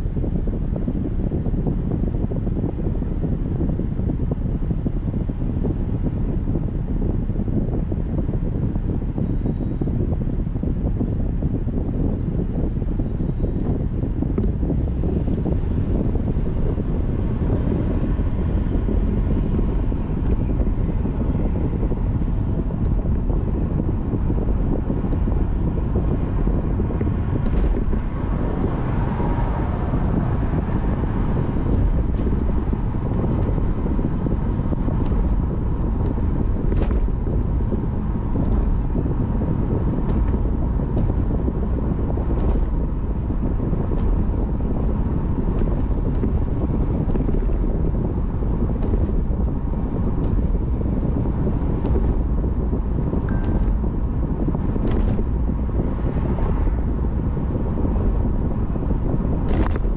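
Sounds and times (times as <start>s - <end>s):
tyre and road noise: 0.0s - 59.9s
wind buffeting microphone: 0.0s - 59.9s.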